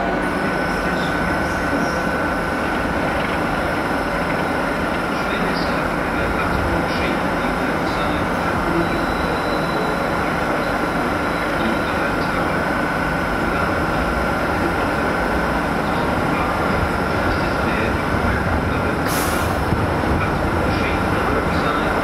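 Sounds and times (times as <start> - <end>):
diesel locomotive rumbling: 0.0 - 22.0
high whine: 0.0 - 22.0.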